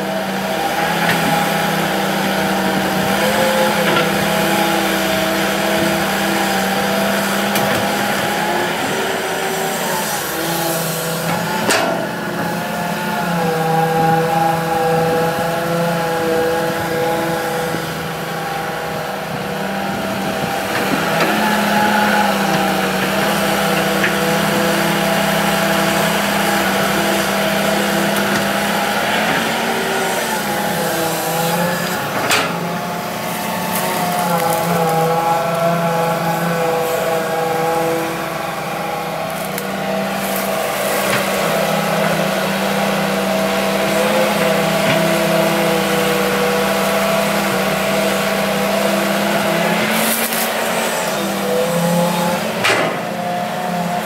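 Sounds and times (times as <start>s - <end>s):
excavator diesel engine under load: 0.0s - 54.0s.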